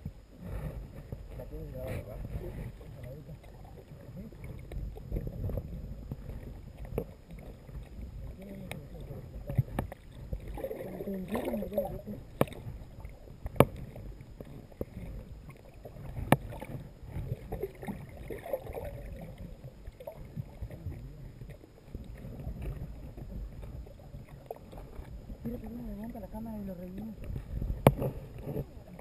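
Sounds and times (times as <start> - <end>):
muffled underwater sloshing: 0.0 - 29.0.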